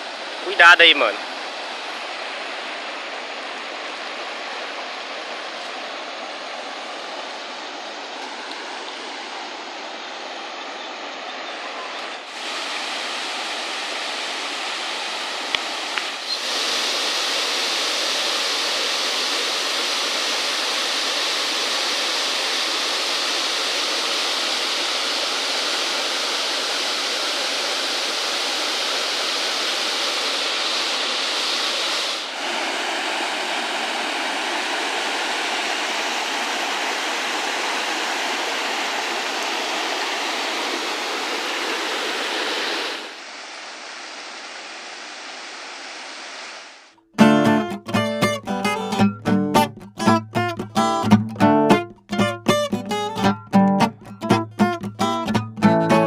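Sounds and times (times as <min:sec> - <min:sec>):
rushing river water: 0:00.0 - 0:49.0.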